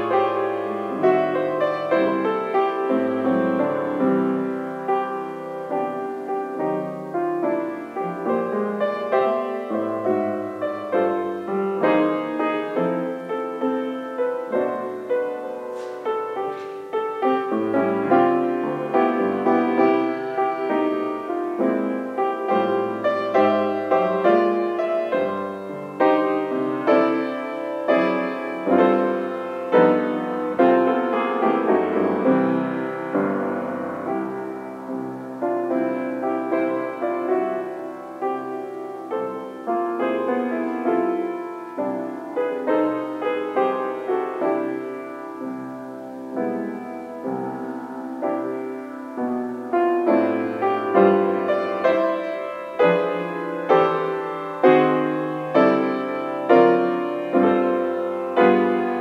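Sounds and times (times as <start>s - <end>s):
piano playing gentle piece: 0.0s - 59.0s.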